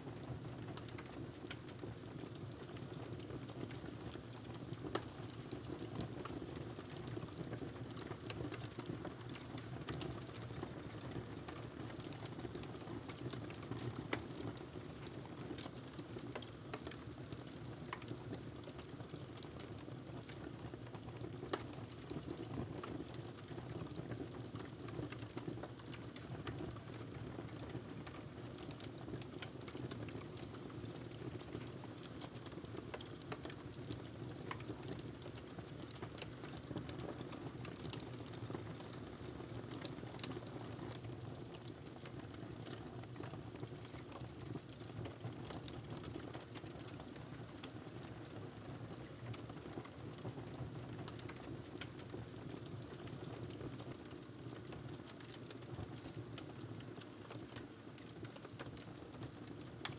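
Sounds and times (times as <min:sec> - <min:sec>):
wood fire crackling: 0:00.5 - 0:59.9.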